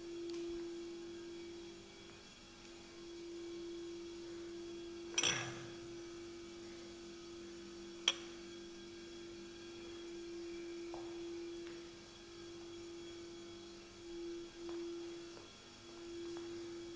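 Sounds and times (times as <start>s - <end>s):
steady hum: 0.0s - 16.9s.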